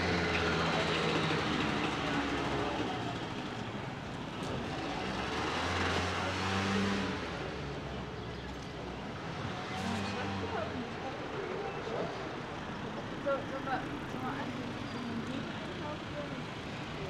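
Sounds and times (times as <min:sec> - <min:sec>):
car engines running: 0:00.0 - 0:17.0.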